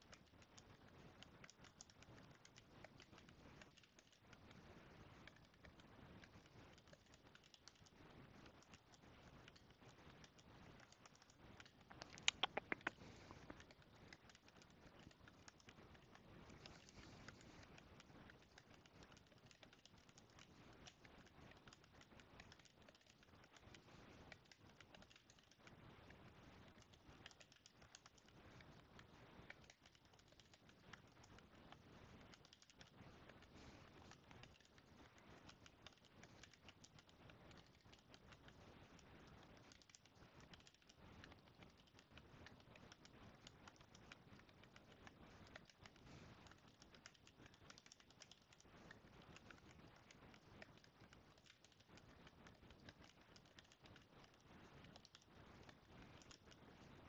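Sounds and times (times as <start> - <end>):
keyboard typing: 0.0 - 57.0.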